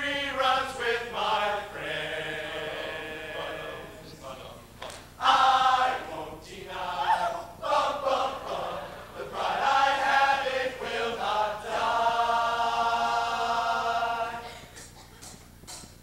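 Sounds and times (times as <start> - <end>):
men's chorus singing: 0.0 - 4.6, 5.2 - 14.7.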